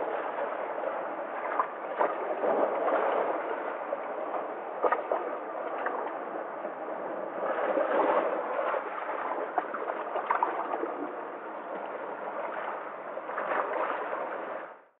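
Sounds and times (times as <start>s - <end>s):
sea water sloshing among rocks: 0.0s - 14.8s.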